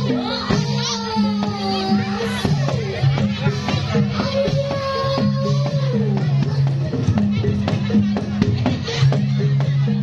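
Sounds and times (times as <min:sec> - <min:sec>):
drum strokes: 0:00.0 - 0:10.0.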